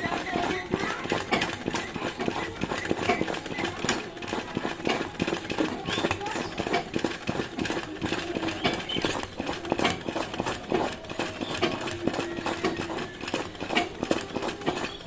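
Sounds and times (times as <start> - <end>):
sewing machine clattering: 0.0 - 15.0.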